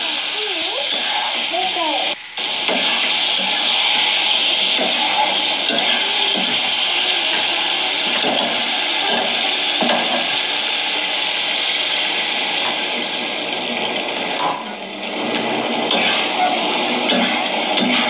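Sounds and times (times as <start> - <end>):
curry sizzling in pan: 0.0 - 18.0.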